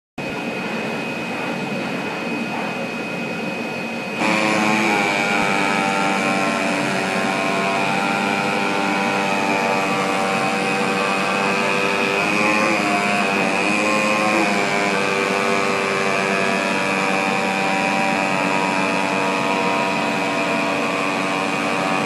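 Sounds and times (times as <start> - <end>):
cutting machine whirring and whining: 0.2 - 22.0.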